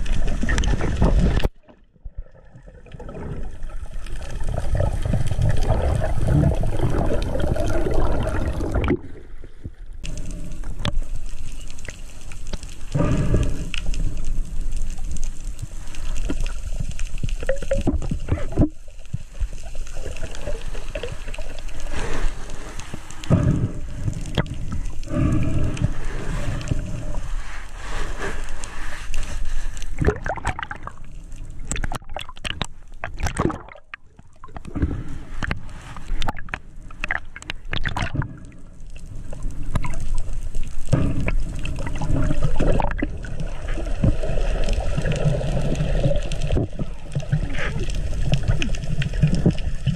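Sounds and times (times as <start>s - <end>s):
underwater water sloshing and gurgling: 0.0s - 49.9s.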